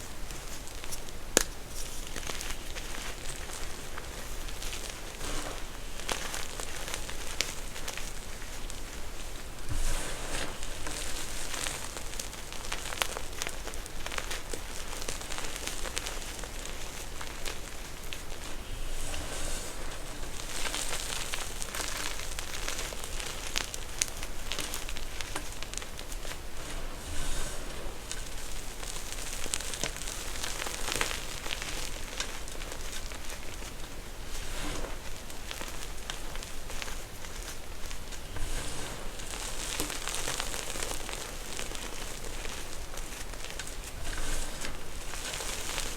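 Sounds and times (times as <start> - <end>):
crunchy slime squished by hand: 0.2 - 45.9.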